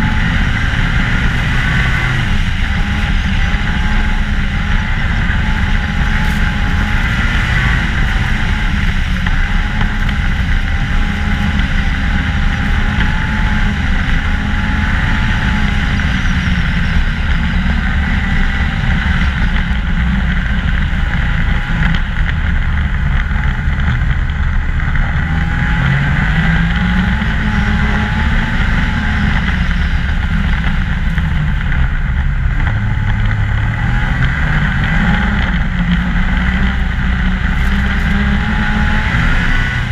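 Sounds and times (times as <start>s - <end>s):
snowmobile engine running: 0.0s - 39.9s
steady rushing noise: 0.0s - 39.9s.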